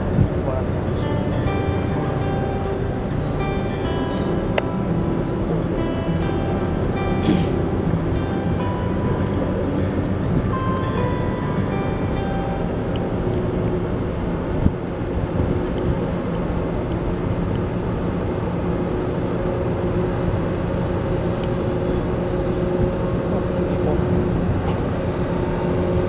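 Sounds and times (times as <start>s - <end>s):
low engine drone: 0.0s - 26.0s.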